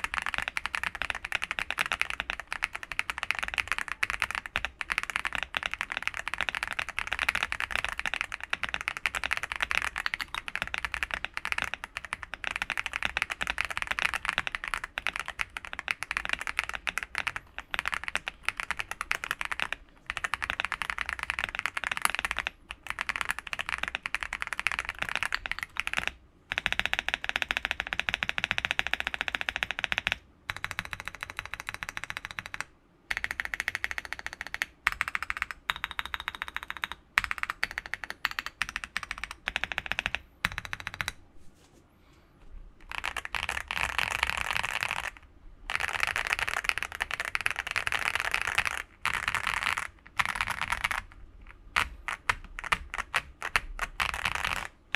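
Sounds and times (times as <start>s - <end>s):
mechanical keyboard typing: 0.0s - 41.2s, 42.8s - 54.8s.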